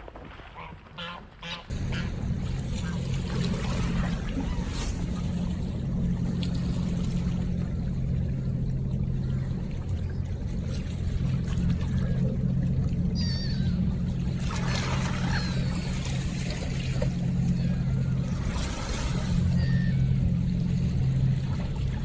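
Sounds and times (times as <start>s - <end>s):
river water trickling: 0.1s - 22.0s
low hum: 1.7s - 22.0s.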